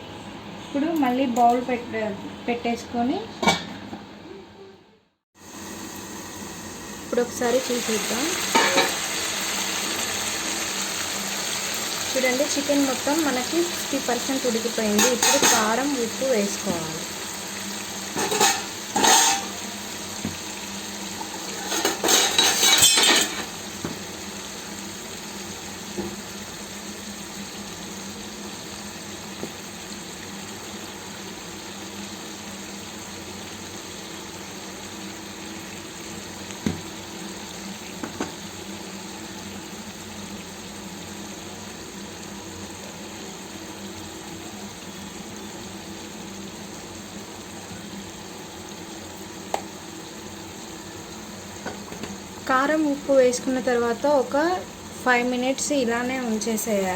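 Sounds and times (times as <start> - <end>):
pot sizzling: 5.4 - 56.9.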